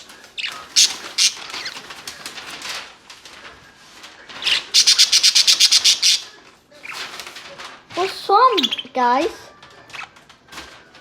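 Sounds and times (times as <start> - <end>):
pet birds chattering: 0.0 - 2.9, 4.3 - 10.4.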